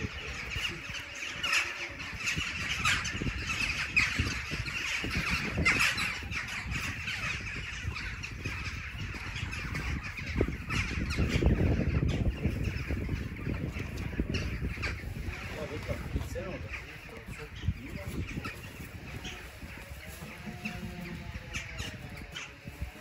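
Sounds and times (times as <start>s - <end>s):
crows cawing: 0.0s - 22.8s.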